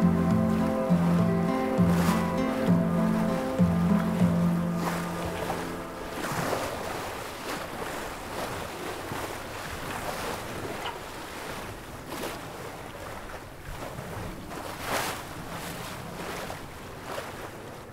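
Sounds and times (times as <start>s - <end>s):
water washing along boat bow: 0.0s - 17.9s.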